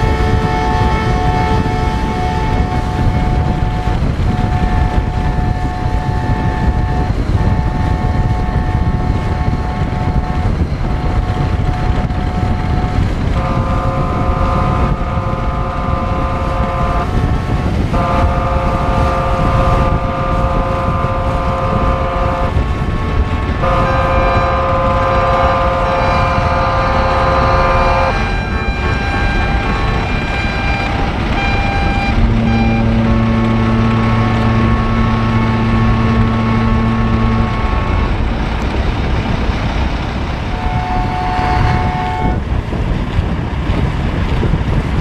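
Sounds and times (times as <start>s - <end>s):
boat engine rumble: 0.0s - 45.0s
ship horns blasting: 0.0s - 45.0s
wind on microphone: 0.0s - 45.0s.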